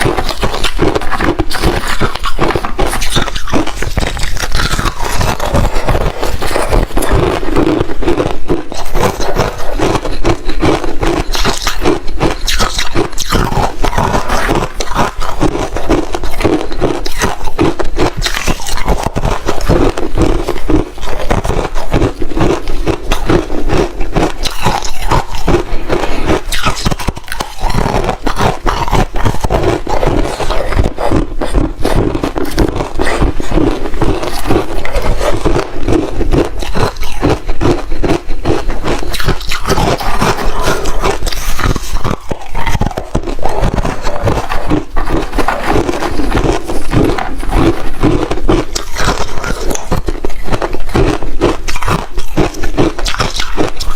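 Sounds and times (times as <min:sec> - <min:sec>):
ice being crunched and chewed: 0:00.0 - 0:53.9.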